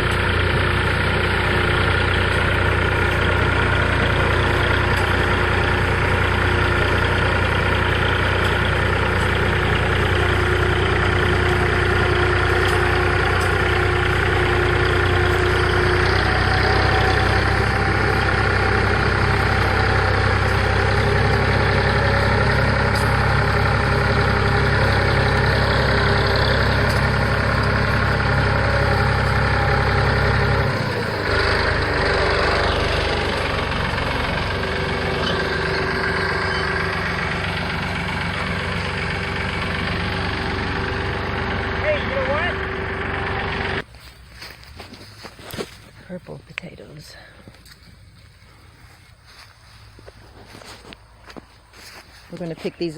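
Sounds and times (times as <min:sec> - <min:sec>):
tractor engine under load: 0:00.0 - 0:52.9.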